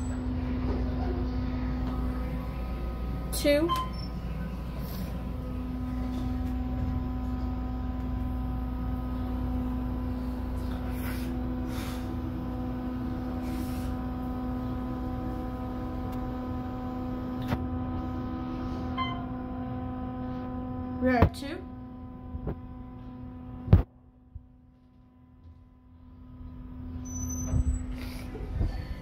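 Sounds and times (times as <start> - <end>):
elevator hum and rumble: 0.0 - 29.0.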